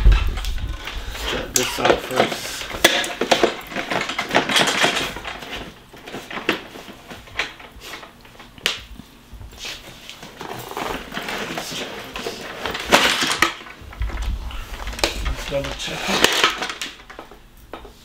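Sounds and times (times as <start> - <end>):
plastic parts clicking and knocking: 0.0 - 8.8, 10.3 - 17.9
rubbing and rustling: 0.0 - 18.0.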